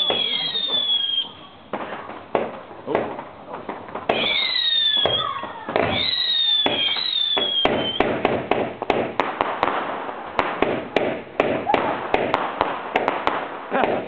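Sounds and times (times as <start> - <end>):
firework bangs and crackles: 0.0 - 14.0
whistling firework shots: 0.0 - 14.0.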